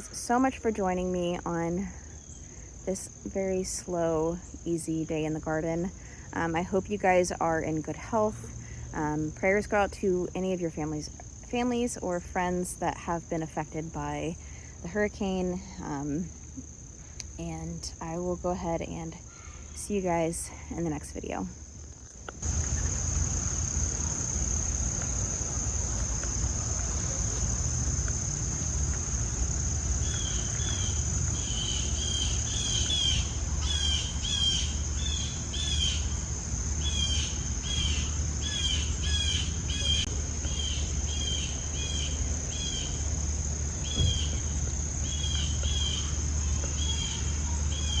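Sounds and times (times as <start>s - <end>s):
crickets trilling: 0.0s - 48.0s
low steady hum: 0.0s - 48.0s.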